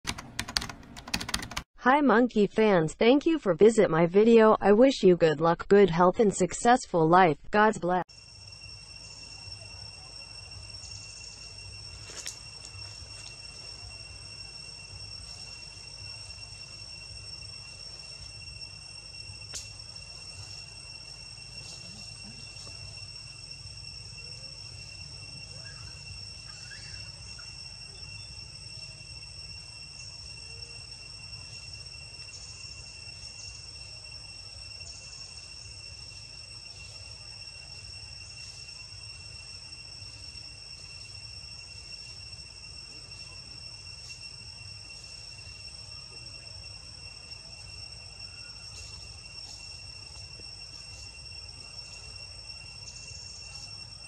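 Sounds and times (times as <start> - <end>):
insect chorus: 8.1 - 54.0.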